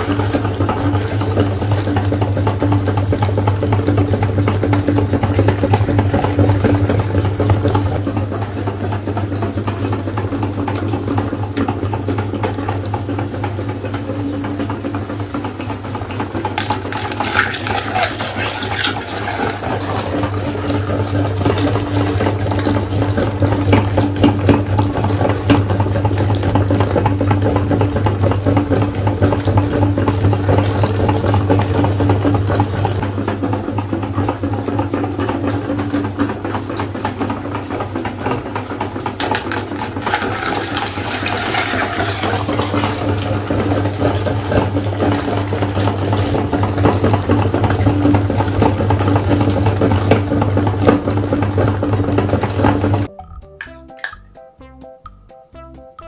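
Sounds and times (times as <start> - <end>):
meat grinder motor hum: 0.0 - 53.1.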